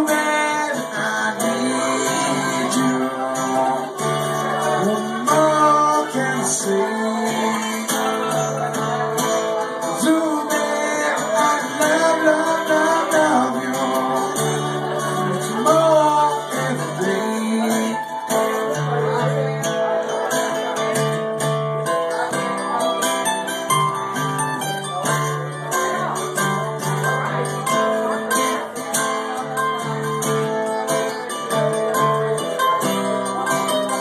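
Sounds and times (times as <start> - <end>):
acoustic guitar strumming: 0.0 - 34.0
mandolin picking: 0.0 - 34.0.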